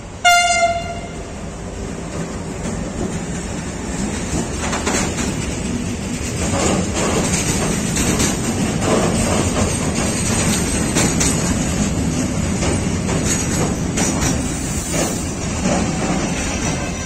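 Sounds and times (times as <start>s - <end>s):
train wheels rumbling on rail: 0.0s - 17.0s
wheels clicking over rail joints: 2.0s - 17.0s.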